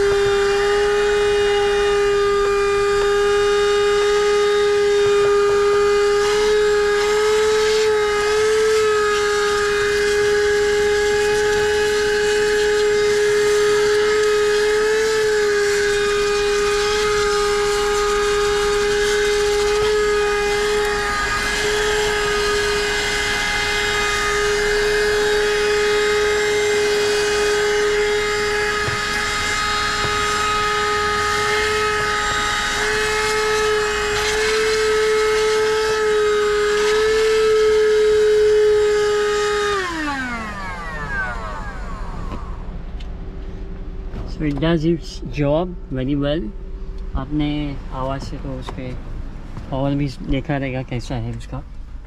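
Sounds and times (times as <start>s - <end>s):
handheld vacuum cleaner whine: 0.0s - 45.2s.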